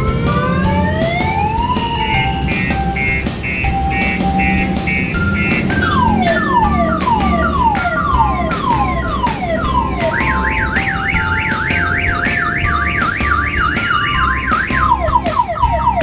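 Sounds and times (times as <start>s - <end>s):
falling whistle tones: 0.0s - 16.0s
pulsing low beat: 0.0s - 16.0s
warbling siren-like tone: 0.0s - 16.0s.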